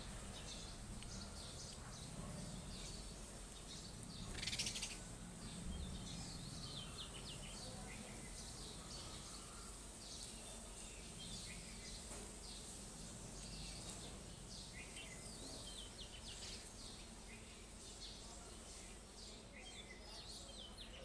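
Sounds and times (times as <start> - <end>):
faint background hiss: 0.0 - 21.0
sparrows chirping: 0.0 - 21.0.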